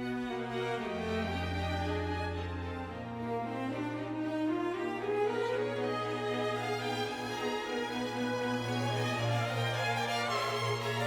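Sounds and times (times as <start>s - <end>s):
bowed strings music: 0.0s - 11.0s.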